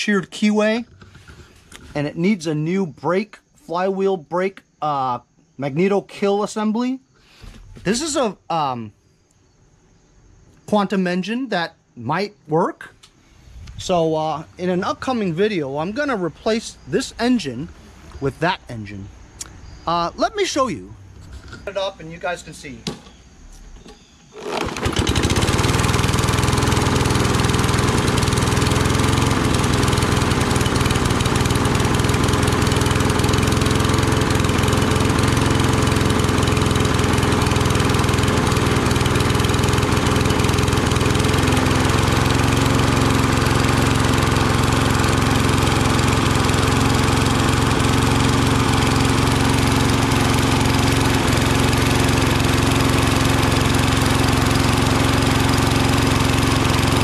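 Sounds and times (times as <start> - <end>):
lawn mower engine running: 0.0 - 4.5, 7.4 - 8.7, 13.1 - 57.0.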